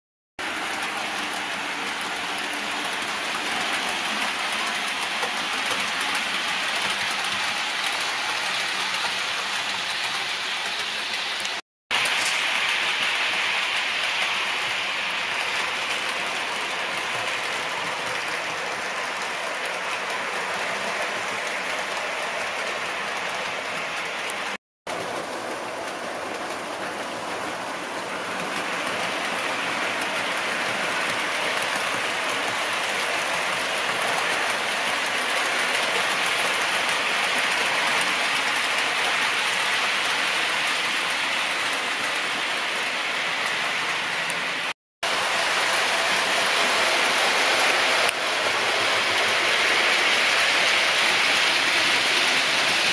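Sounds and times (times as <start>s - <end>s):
model train wheels on track: 0.4s - 52.9s.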